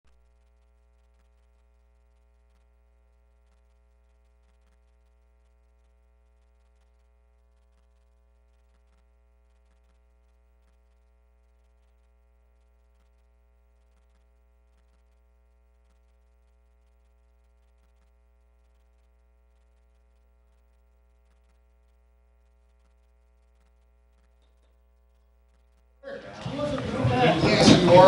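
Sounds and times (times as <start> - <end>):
faint ticks: 0.1 - 26.0
faint electrical hum: 0.1 - 28.0.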